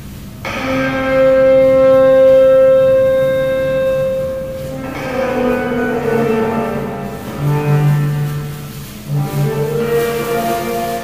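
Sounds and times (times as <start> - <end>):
instrumental music: 0.4 - 11.0.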